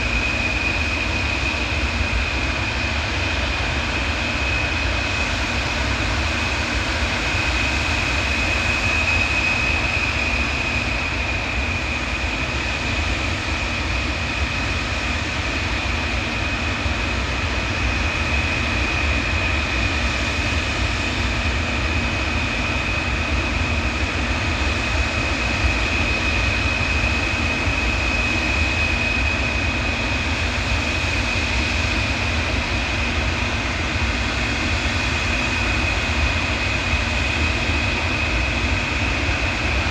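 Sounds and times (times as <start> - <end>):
aircraft engines whining and rumbling: 0.0 - 39.9.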